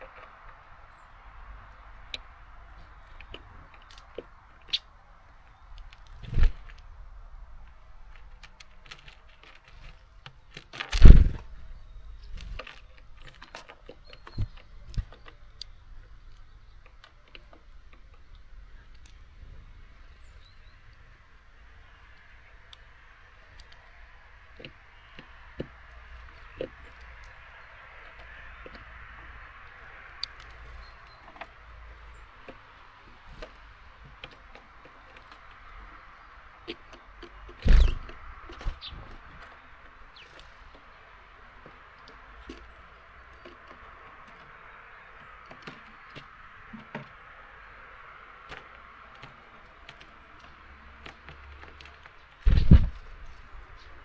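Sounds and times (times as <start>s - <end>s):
birds pecking on a feeder: 0.0s - 54.0s.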